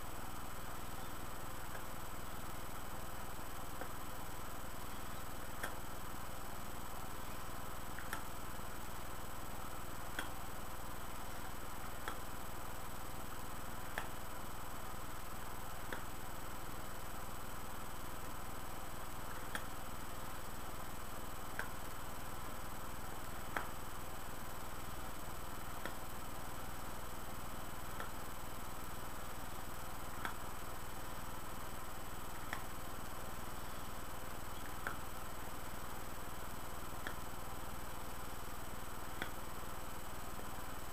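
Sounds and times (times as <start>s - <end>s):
microphone hiss and hum: 0.0s - 40.9s.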